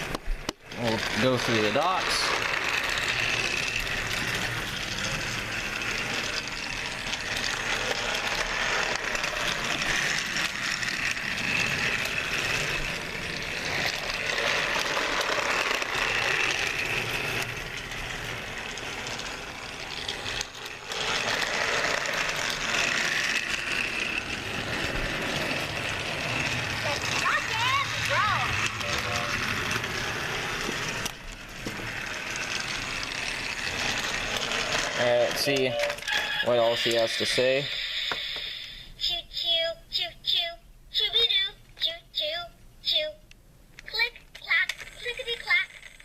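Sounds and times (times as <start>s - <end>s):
wheels clattering on plastic track: 0.0s - 38.5s, 43.8s - 46.0s
toy train motor whir: 0.0s - 46.0s.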